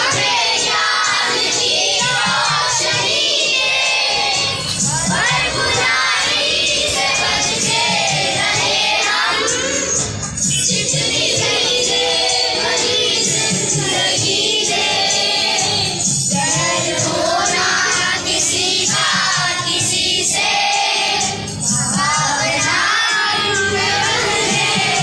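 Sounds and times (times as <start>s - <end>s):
children singing in unison: 0.0s - 25.0s.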